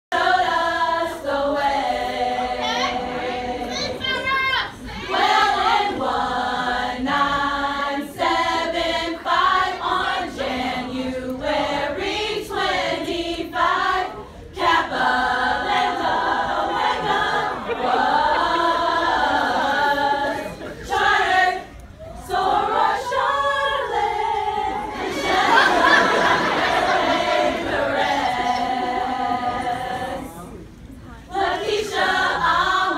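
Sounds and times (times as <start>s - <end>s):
women singing together: 0.1s - 30.6s, 31.2s - 32.9s.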